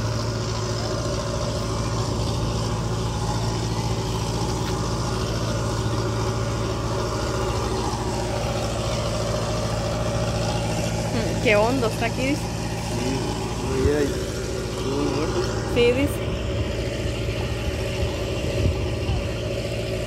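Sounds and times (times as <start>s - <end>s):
water pump engine droning: 0.0s - 20.0s.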